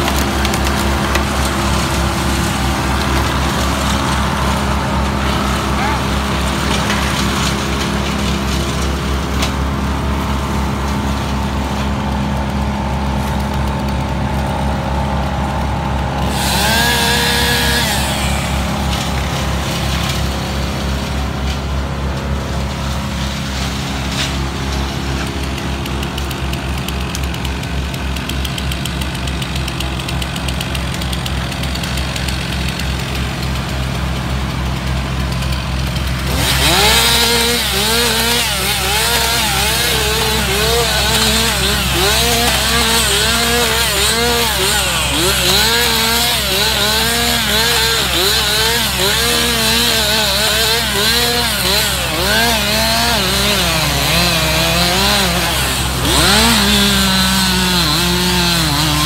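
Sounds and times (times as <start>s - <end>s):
engine revving: 0.0s - 59.0s
loader engine running: 0.0s - 59.0s.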